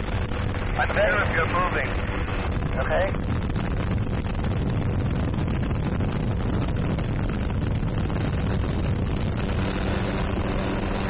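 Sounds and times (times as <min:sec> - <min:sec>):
low engine drone: 0:00.0 - 0:11.0
wind buffeting microphone: 0:00.0 - 0:11.0.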